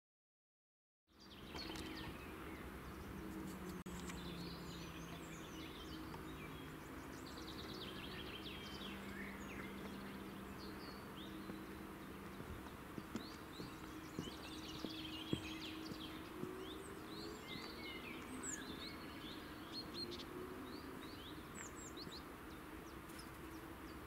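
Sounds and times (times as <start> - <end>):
small birds chirping: 1.1 - 24.0
faint low hum: 1.2 - 24.0.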